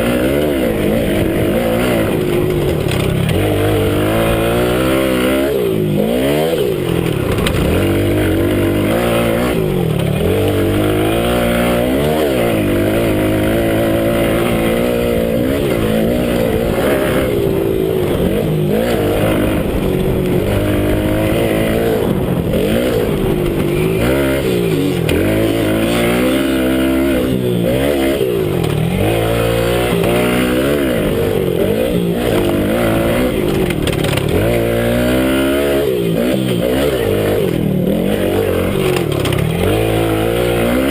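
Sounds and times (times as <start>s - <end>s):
minibike engine revving: 0.0s - 40.9s.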